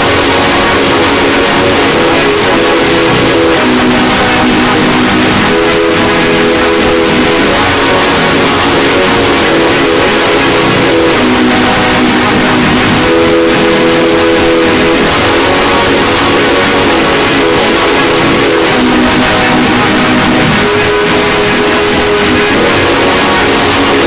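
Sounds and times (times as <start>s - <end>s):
distorted electronic noise: 0.0s - 24.0s
held electronic tones: 0.0s - 24.0s.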